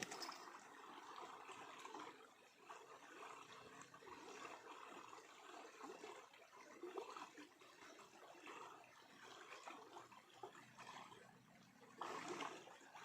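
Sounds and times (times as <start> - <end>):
stream water gurgling: 0.0 - 13.0.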